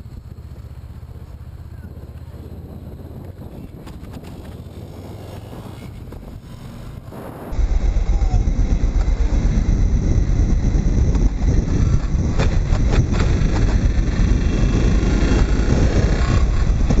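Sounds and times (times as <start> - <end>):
motorcycle engine and road noise: 0.0 - 17.0
wind buffeting microphone: 1.6 - 17.0.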